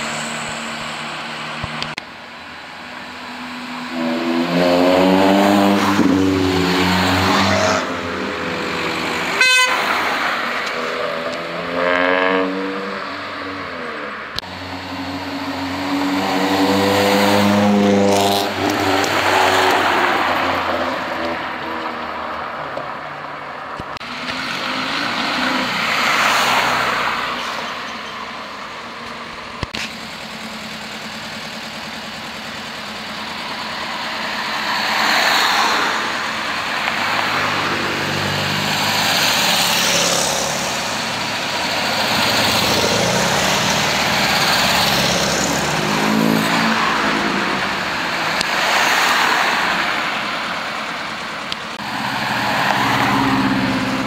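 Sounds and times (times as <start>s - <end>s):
cars driving past: 0.0s - 29.8s, 30.7s - 54.0s.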